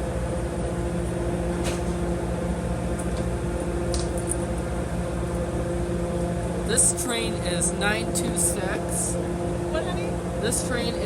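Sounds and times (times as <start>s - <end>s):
diesel train idling hum: 0.0s - 11.0s.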